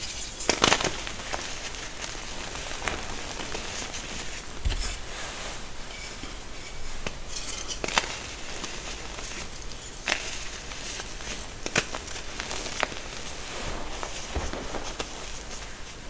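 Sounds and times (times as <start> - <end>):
chalk crumbling: 0.0 - 16.0.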